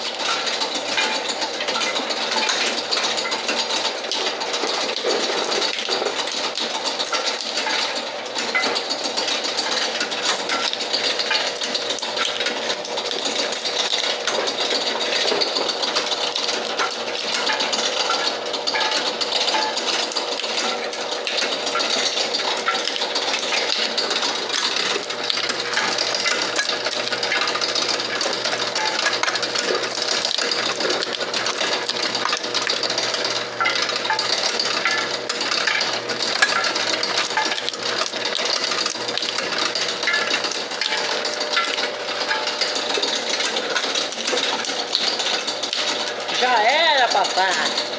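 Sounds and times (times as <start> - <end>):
shelling machine clattering: 0.0 - 47.9.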